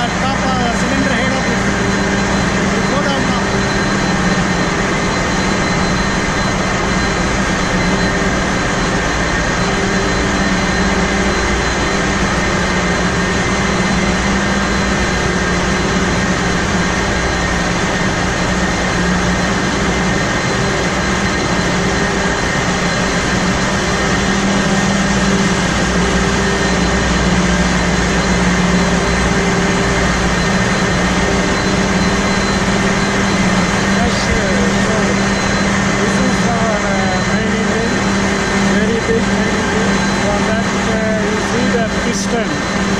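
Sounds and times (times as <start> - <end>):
engine room machinery din: 0.0 - 42.9.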